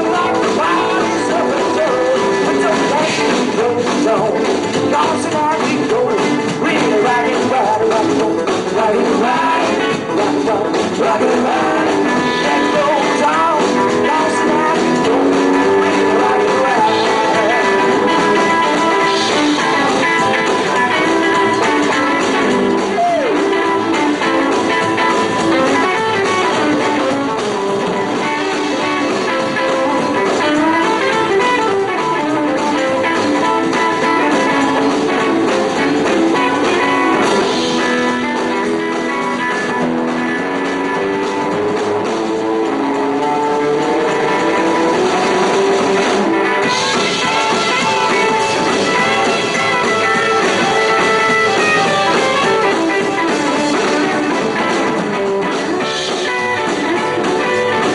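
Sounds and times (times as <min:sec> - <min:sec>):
electric guitar: 0:00.0 - 0:57.9
live rock and roll band: 0:00.0 - 0:57.9.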